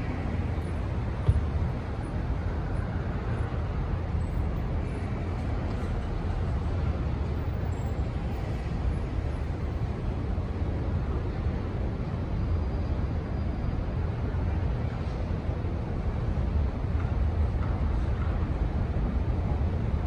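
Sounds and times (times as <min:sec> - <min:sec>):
passing traffic rumble: 0:00.0 - 0:20.0.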